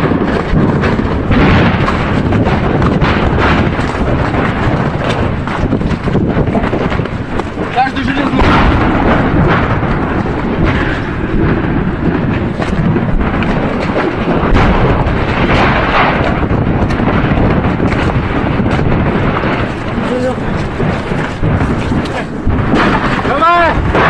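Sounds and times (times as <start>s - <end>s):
continuous low rumble: 0.0s - 24.0s.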